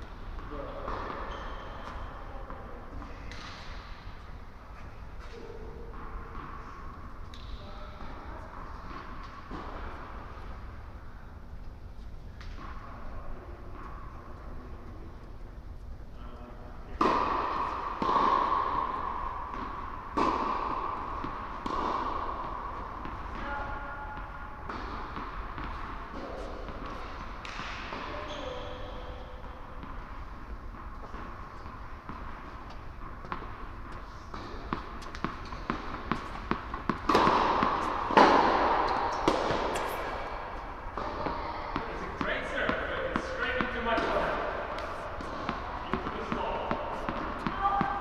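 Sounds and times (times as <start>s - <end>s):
tennis balls struck in echoing hall: 0.0s - 48.0s.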